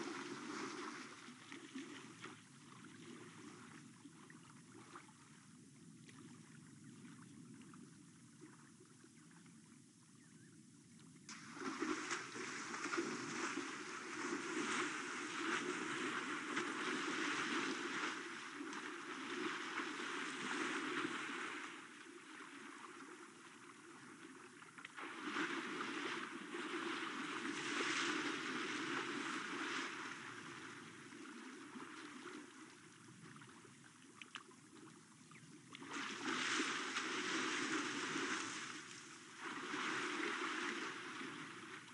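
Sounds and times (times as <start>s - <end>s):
elephant sloshing through water: 0.0s - 5.4s, 11.3s - 41.9s
steady wash of water: 0.0s - 5.5s, 11.3s - 41.9s.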